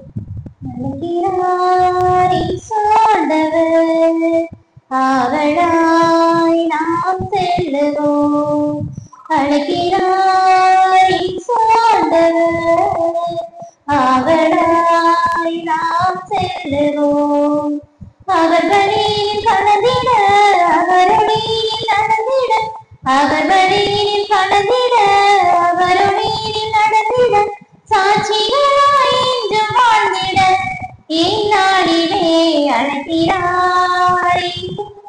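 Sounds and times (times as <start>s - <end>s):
high voices singing a hymn: 0.7s - 35.0s.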